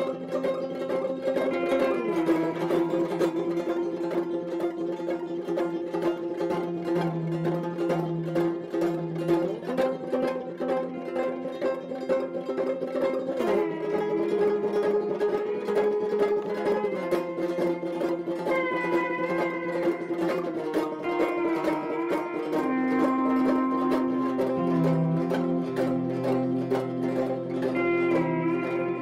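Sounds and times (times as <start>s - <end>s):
banjo picking: 0.0s - 29.0s.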